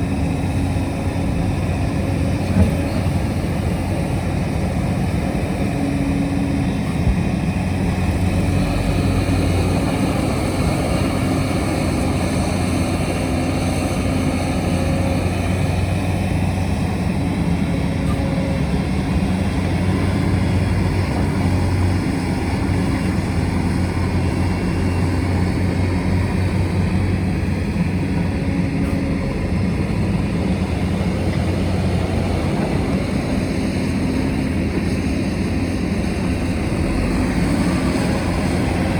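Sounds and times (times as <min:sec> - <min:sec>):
digger diesel engine droning: 0:00.0 - 0:38.9.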